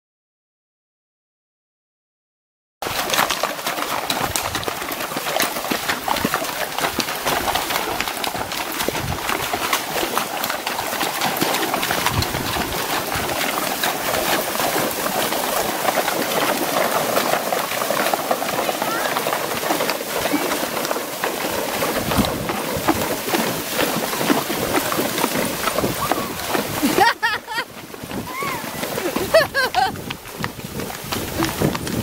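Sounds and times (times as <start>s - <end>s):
hooves splashing in water: 2.8s - 32.0s.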